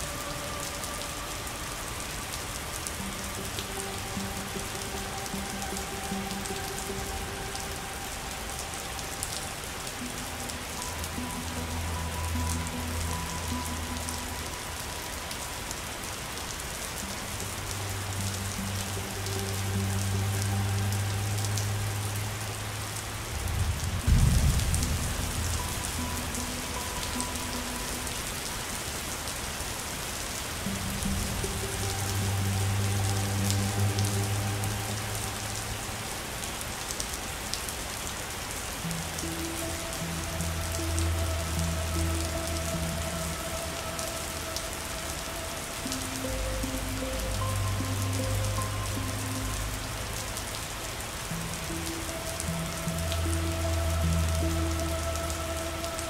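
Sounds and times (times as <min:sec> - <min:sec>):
rain hissing and pattering: 0:00.0 - 0:56.0
soft music of low held notes: 0:00.0 - 0:56.0.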